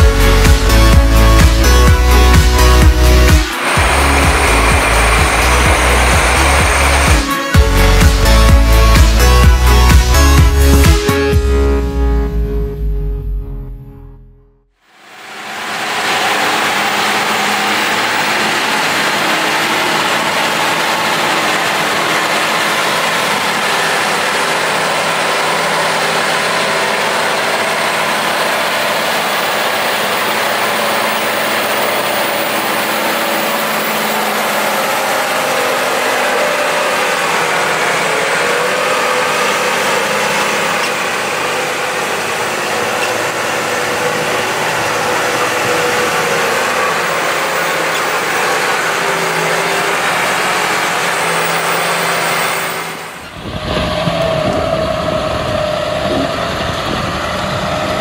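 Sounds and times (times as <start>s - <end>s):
tractor diesel engines running: 0.0s - 13.4s, 14.8s - 58.0s.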